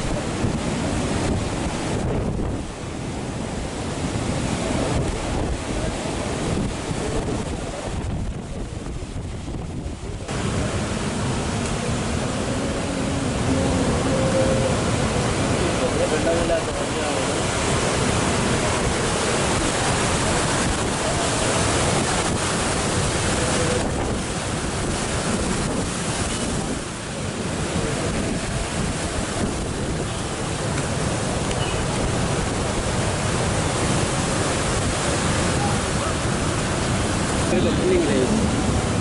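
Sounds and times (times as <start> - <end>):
storm surf breaking heavily: 0.0 - 39.0
wind buffeting microphone: 0.0 - 39.0.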